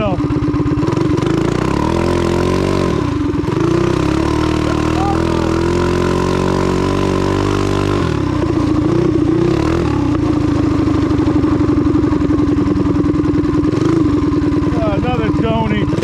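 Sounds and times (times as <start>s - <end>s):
small bike engine running: 0.0s - 16.0s.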